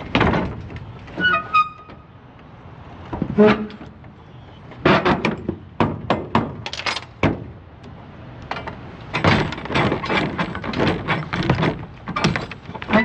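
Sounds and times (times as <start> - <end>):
metal lock rods clanking: 0.0 - 2.1, 3.1 - 13.0.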